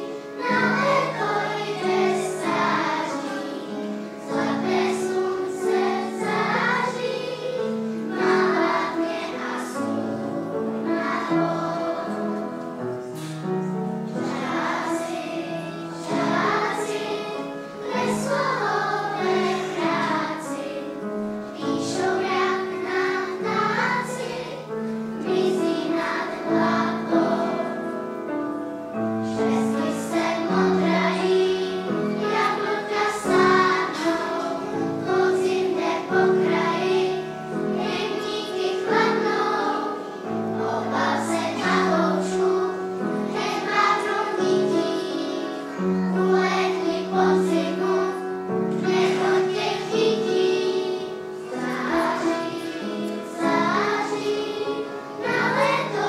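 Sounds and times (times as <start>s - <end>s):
children singing: 0.0s - 56.0s.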